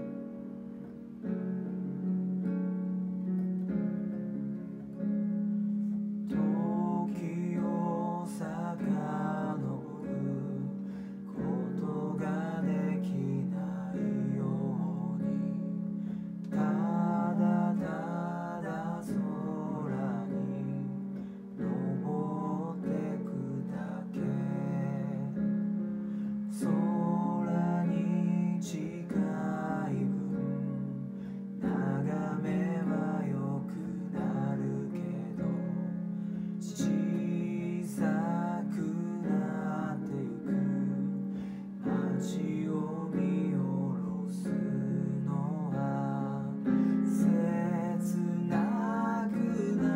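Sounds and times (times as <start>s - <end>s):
man singing: 6.3s - 25.6s, 26.4s - 49.9s.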